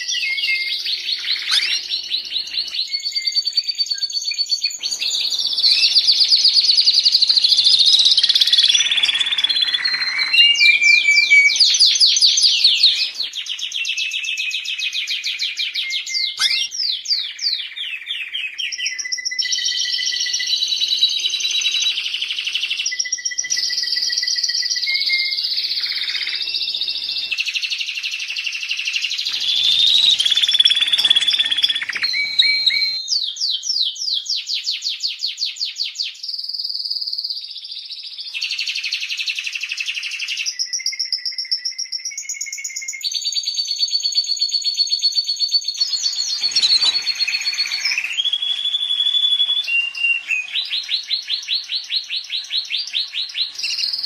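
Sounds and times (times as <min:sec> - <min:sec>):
canary singing trills: 0:00.0 - 0:34.4, 0:36.2 - 0:54.0.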